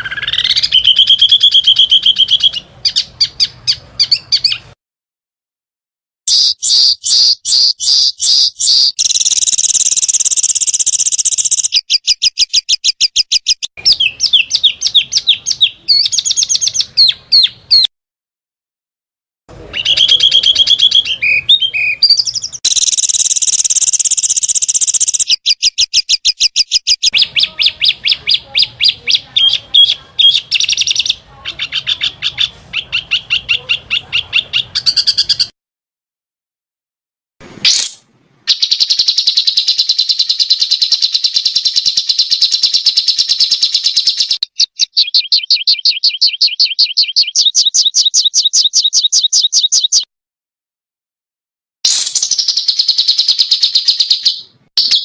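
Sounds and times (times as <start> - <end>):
songbirds calling: 0.0 - 4.8, 6.3 - 17.9, 19.6 - 35.5, 37.7 - 50.1.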